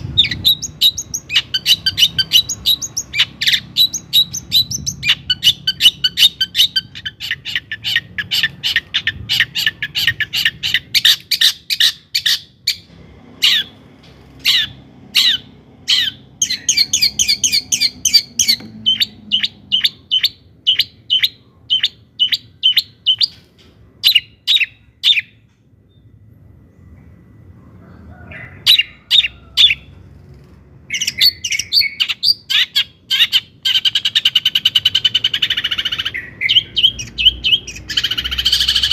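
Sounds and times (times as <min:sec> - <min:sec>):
bird singing rattling notes: 0:00.0 - 0:23.4, 0:30.9 - 0:38.9.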